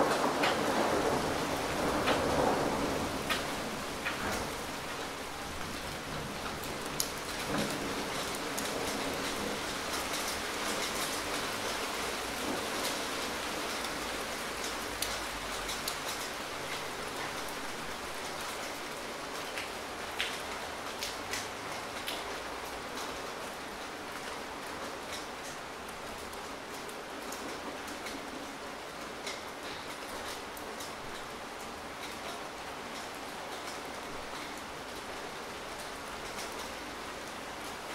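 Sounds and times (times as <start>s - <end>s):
steady rain hiss: 0.0s - 37.9s.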